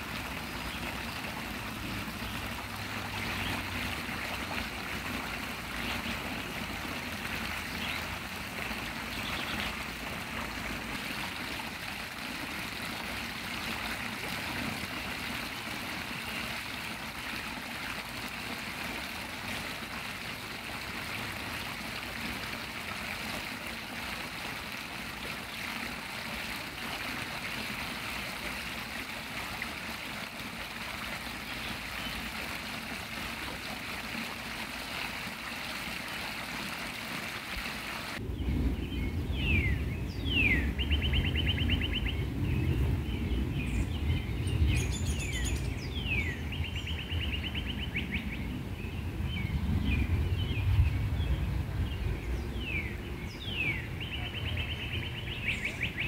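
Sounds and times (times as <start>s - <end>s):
stream running water: 0.0s - 38.2s, 38.8s - 56.0s.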